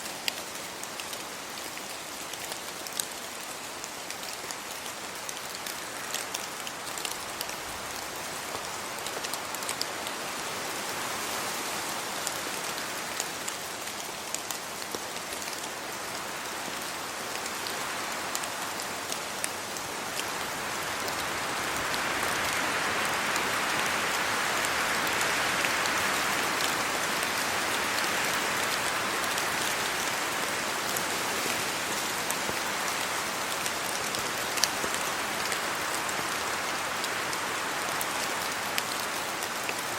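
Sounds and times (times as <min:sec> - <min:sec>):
rain drops ticking close by: 0:00.0 - 0:39.9
rain falling on leaves: 0:00.0 - 0:39.9.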